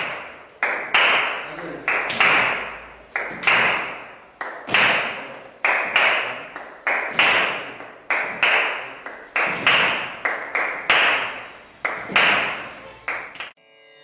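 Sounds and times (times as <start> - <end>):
hand cymbals struck: 0.0 - 13.4.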